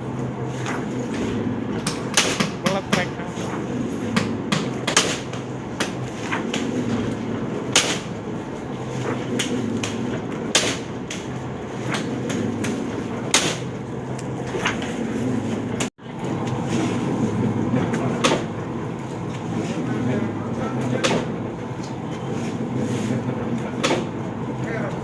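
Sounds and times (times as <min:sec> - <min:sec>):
press mechanical hum: 0:00.0 - 0:25.0.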